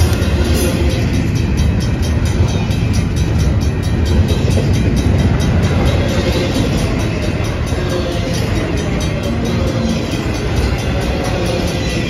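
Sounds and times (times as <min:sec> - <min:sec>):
steel wheels rumbling on rail: 0:00.0 - 0:12.0.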